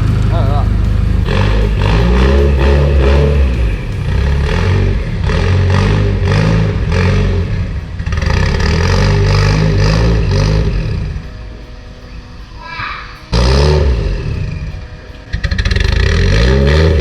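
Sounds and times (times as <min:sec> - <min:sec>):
car engine revving: 0:00.0 - 0:11.8, 0:13.2 - 0:17.0.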